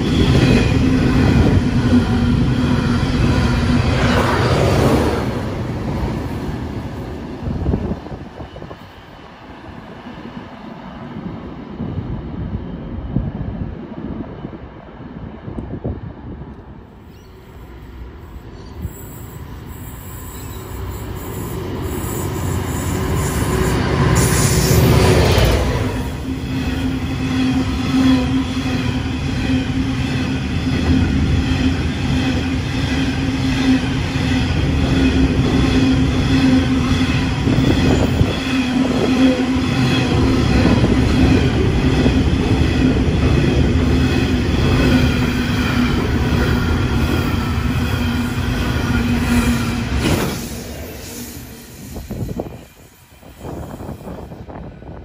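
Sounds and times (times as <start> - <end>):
diesel locomotives passing: 0.0 - 55.0.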